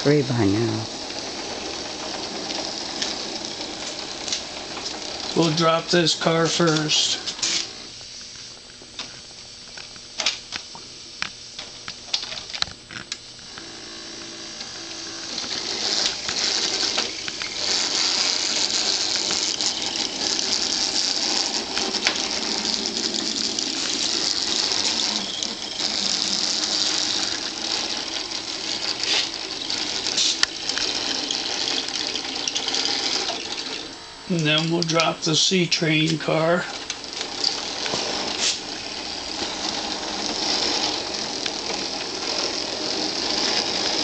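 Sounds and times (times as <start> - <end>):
model train cars clicking: 0.0 - 7.7, 15.3 - 44.0
model locomotive motor whirring: 0.0 - 8.0, 11.6 - 44.0.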